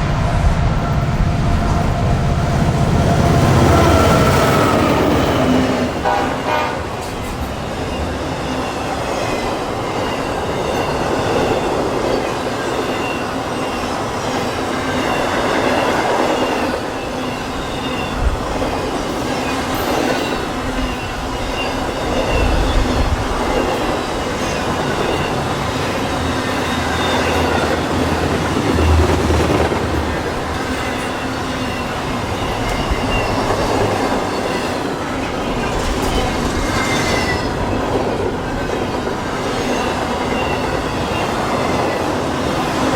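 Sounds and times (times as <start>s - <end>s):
steel wheels clattering on rails: 0.0s - 42.9s.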